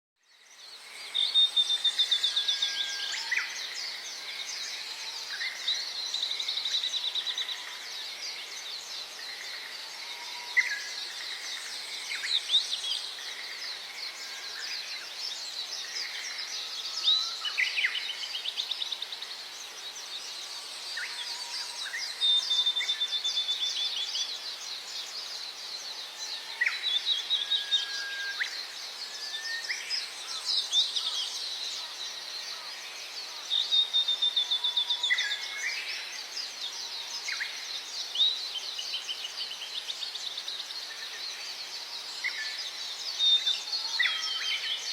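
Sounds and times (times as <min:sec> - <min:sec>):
faint background hiss: 0:00.2 - 0:44.9
songbirds trilling and chirping: 0:00.2 - 0:44.9.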